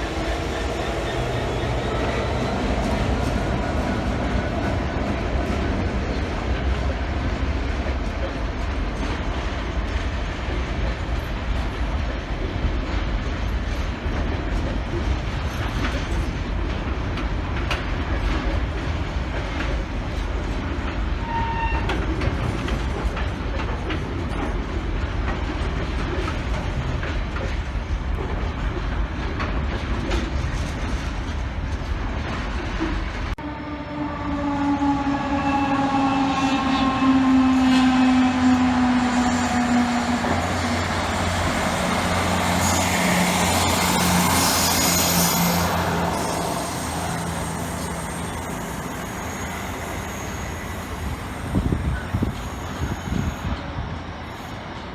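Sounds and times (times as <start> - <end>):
train rumbling past: 0.0 - 54.9.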